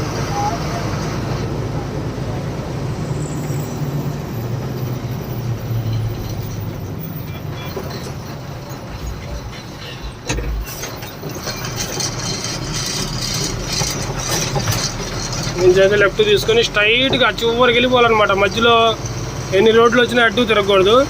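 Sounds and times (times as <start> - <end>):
diesel truck engine running: 0.0 - 21.0
road noise: 0.0 - 21.0.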